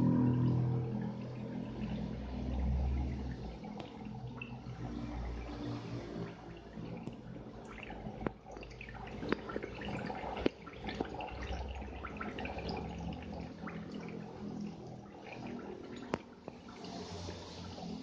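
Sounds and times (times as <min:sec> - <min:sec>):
low steady hum: 0:00.0 - 0:18.0
water trickling and dripping: 0:00.0 - 0:18.0.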